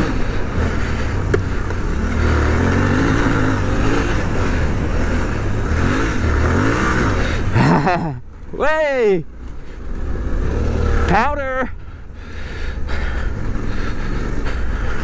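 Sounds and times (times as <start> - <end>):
motorcycle engine revving: 0.0 - 15.0
wind and tyre noise: 0.0 - 15.0.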